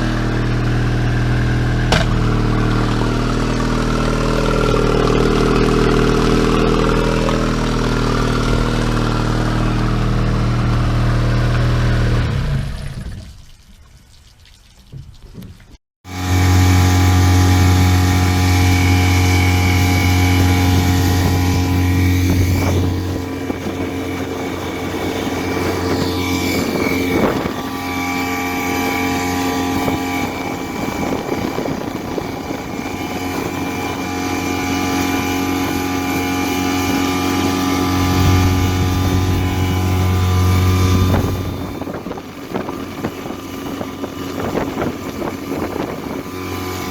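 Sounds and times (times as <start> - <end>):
outboard motor running: 0.0 - 13.5, 15.3 - 46.9.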